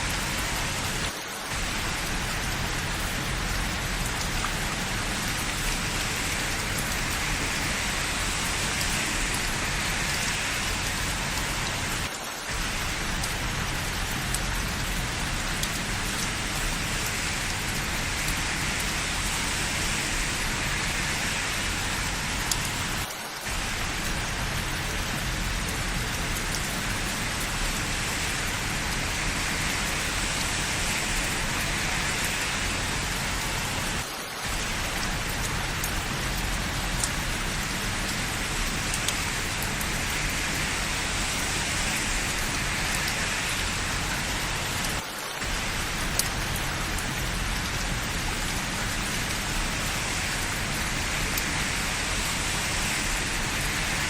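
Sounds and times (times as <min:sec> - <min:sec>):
rain on hard surfaces: 0:00.0 - 0:54.0
raindrop ticks: 0:00.0 - 0:54.0.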